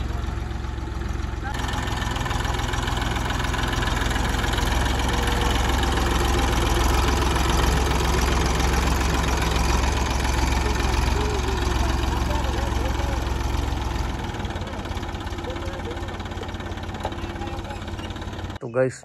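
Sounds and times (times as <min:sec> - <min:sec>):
tractor diesel engine running: 0:00.0 - 0:18.6.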